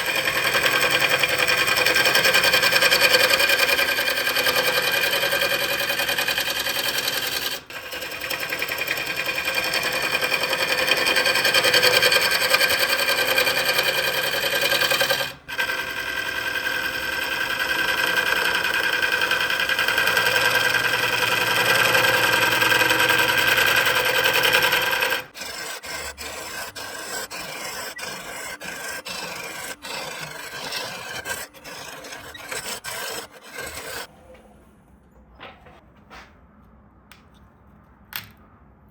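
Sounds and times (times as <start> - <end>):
tool rubbing spinning wood: 0.0 - 34.2.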